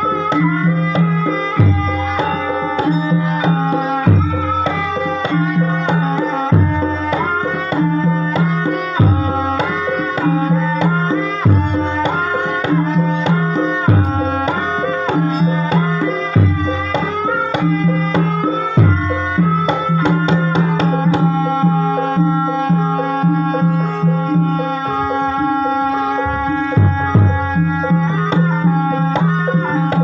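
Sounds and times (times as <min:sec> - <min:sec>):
hand drum strokes: 0:00.0 - 0:30.0
ringing pitched percussion: 0:00.0 - 0:30.0.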